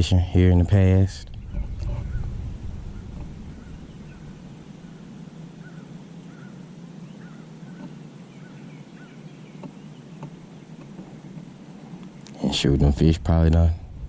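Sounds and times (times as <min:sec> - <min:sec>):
steady low hum: 0:00.0 - 0:14.0
bird chirping: 0:01.2 - 0:12.6.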